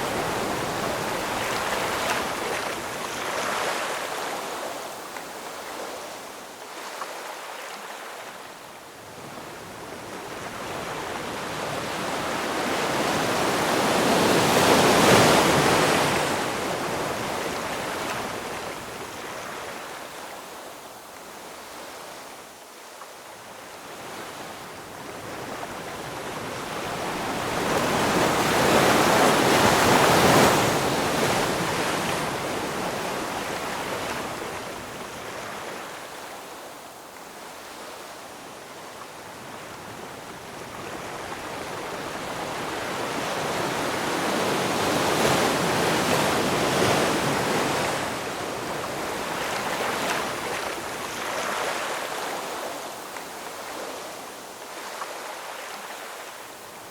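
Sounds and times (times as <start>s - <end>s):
ocean waves breaking on shore: 0.0s - 22.4s, 23.4s - 56.9s.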